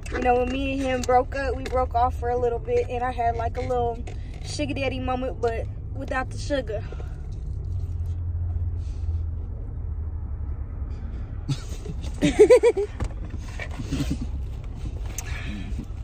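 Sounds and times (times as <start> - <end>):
car idling: 0.0 - 16.0.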